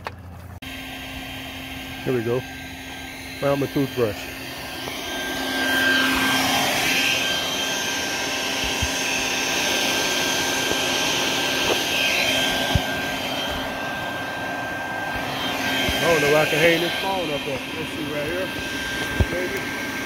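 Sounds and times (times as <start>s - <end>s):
vacuum cleaner running: 0.6s - 20.0s.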